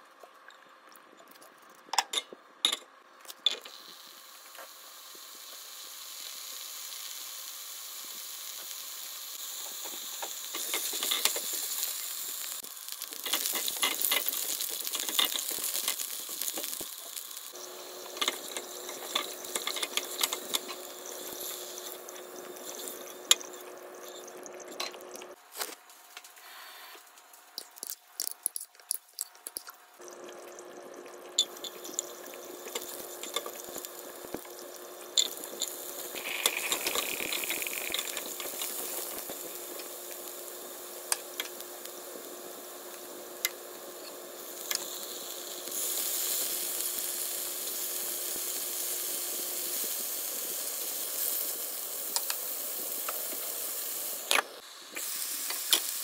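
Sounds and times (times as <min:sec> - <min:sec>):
food frying in a pan: 0:03.4 - 0:25.6, 0:27.2 - 0:56.0.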